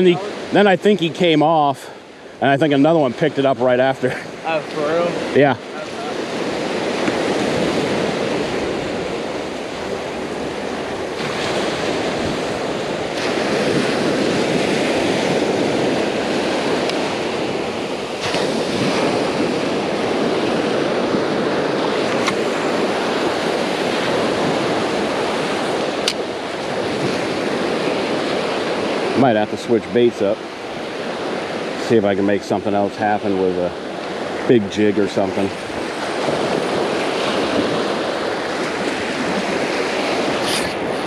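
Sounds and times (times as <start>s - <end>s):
ocean waves breaking on beach: 0.0s - 41.0s.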